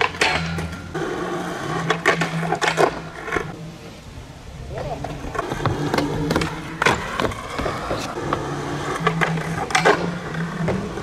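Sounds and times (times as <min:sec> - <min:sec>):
skateboard clacks: 0:00.0 - 0:03.5, 0:05.0 - 0:11.0
skateboard rolling on asphalt: 0:00.0 - 0:11.0.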